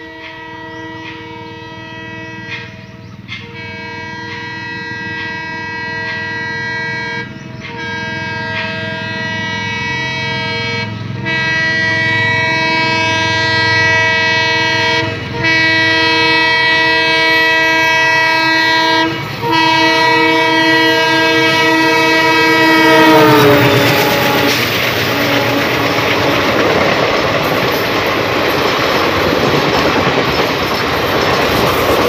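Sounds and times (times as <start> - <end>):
locomotive horn blasts: 0.0 - 27.0.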